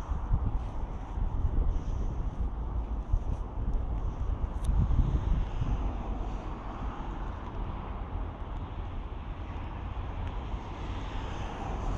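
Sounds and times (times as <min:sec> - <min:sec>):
wind rumbling on microphone: 0:00.0 - 0:11.9.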